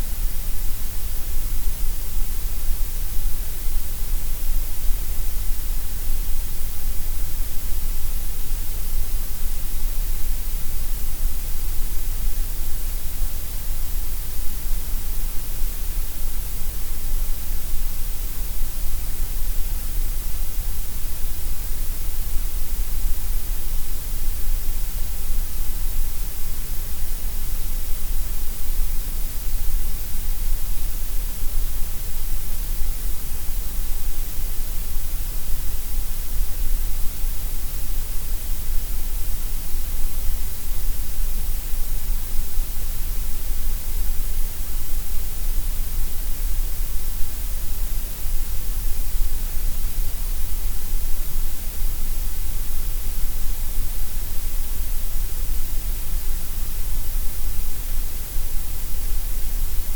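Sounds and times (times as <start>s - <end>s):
gray noise hiss: 0.0s - 59.9s.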